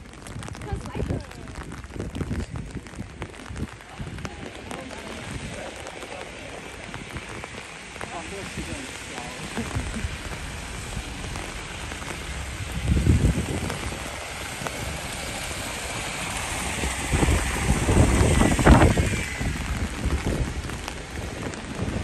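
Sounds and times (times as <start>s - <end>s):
low rumbles: 0.0s - 22.0s
steady rain falling: 0.0s - 22.0s.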